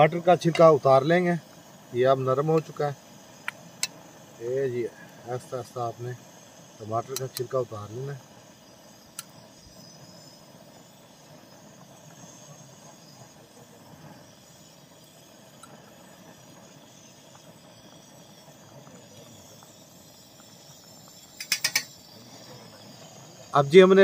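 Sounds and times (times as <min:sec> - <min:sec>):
broth simmering: 0:00.0 - 0:24.0.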